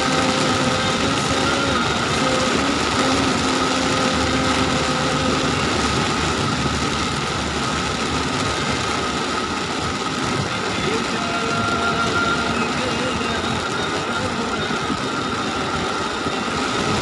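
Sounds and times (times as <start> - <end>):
car engine hum: 0.0 - 17.0
heavy rain and tyre spray: 0.0 - 17.0.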